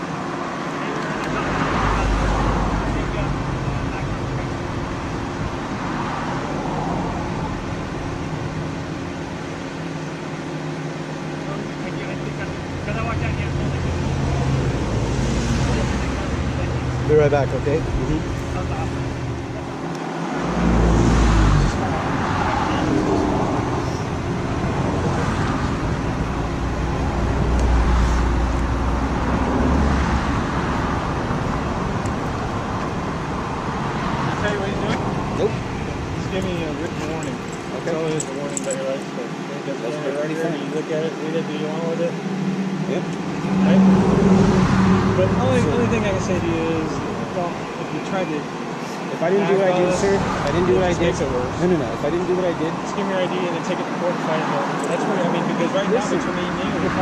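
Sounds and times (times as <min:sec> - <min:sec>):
roadside traffic noise: 0:00.0 - 0:57.0
low engine hum: 0:00.1 - 0:52.9
vehicle passing: 0:05.7 - 0:07.7, 0:11.8 - 0:39.5, 0:40.7 - 0:57.0.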